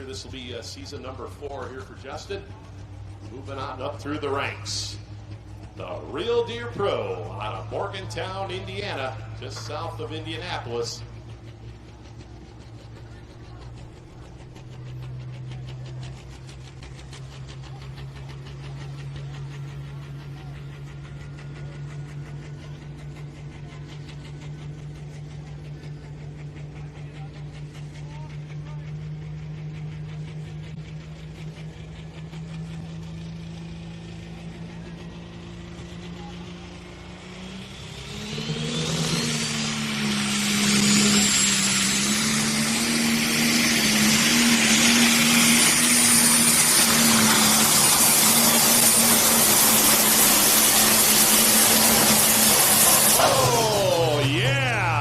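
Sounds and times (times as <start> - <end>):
diesel engine idling: 0.0 - 55.0
turbo noise and rushing exhaust: 0.0 - 55.0.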